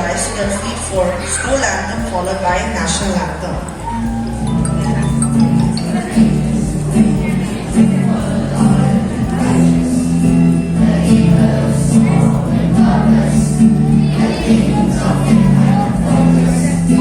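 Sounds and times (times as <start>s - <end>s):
choir singing: 0.0s - 17.0s
instrumental accompaniment: 0.0s - 17.0s.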